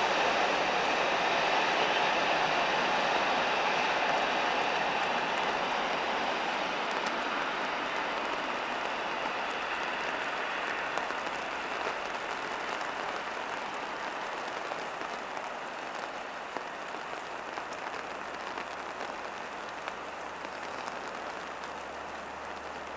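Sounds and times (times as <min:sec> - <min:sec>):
raindrops ticking close by: 0:00.0 - 0:22.9
steady rain falling: 0:00.0 - 0:22.9.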